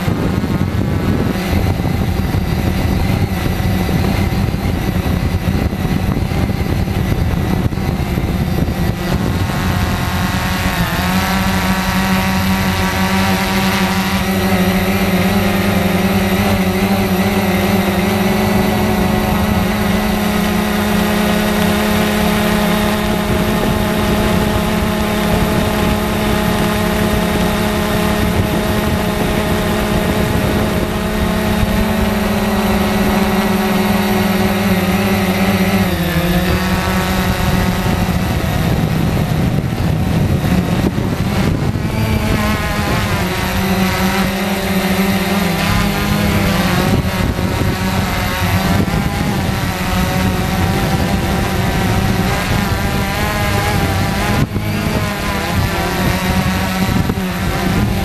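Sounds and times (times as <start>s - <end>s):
drone motors whirring: 0.0s - 58.0s.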